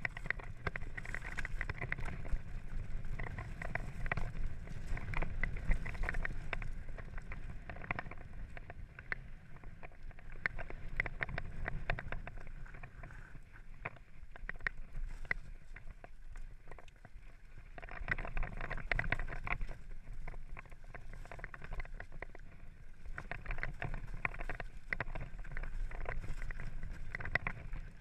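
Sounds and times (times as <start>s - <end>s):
bike rattling: 0.0s - 28.0s
wind rumble: 0.0s - 28.0s.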